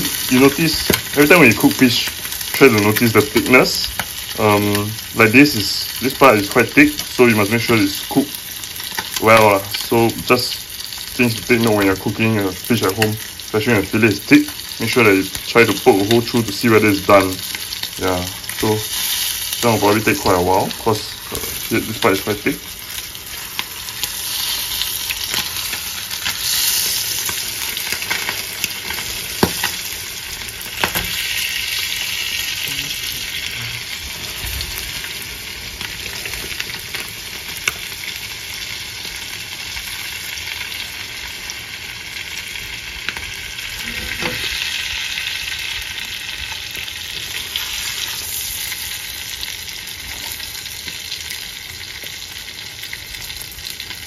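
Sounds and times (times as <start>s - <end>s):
fish sizzling in butter: 0.0s - 54.0s.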